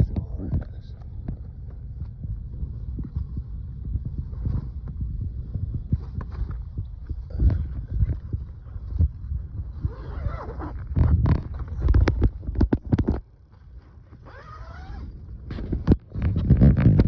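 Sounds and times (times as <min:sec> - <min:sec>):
wind buffeting microphone: 0:00.0 - 0:13.5, 0:14.1 - 0:17.0
tent rustling and knocks: 0:02.9 - 0:17.0.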